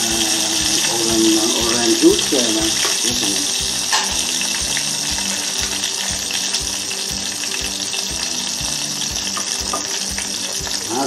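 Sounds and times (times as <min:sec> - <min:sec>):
background music with low thumps: 0:00.0 - 0:11.0
sauce simmering with sizzling hiss: 0:00.0 - 0:11.0.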